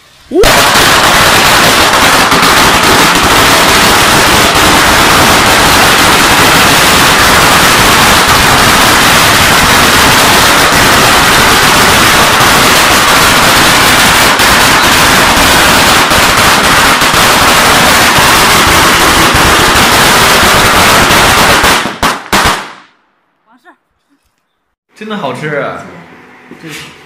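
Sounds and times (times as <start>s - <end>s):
firecrackers crackling: 0.0s - 23.6s.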